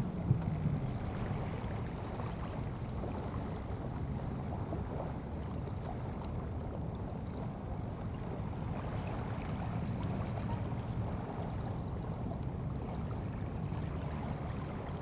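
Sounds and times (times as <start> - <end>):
water noise: 0.0 - 15.0
wind rumble on microphone: 0.0 - 15.0.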